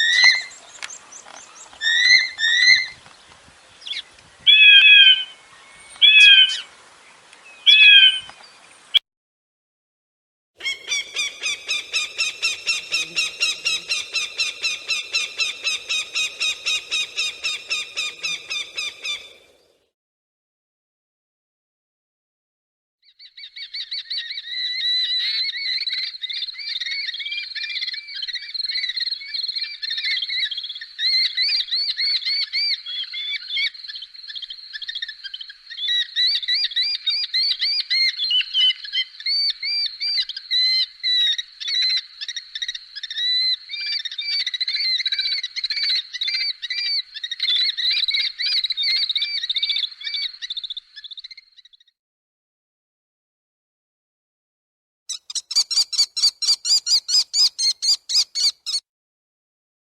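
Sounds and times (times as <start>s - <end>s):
birds of prey crying: 0.0s - 3.0s, 3.9s - 6.7s, 7.6s - 8.3s, 10.6s - 19.7s, 23.1s - 51.9s, 55.1s - 58.8s.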